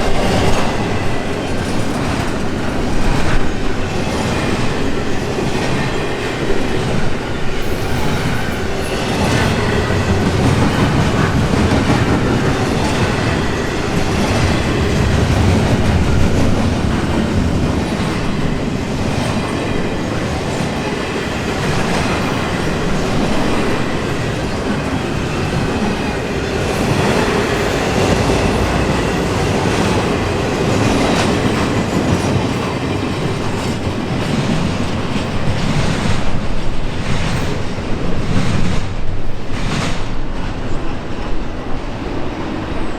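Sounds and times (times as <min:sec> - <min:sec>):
train wheels clattering over rail joints: 0:00.0 - 0:40.7.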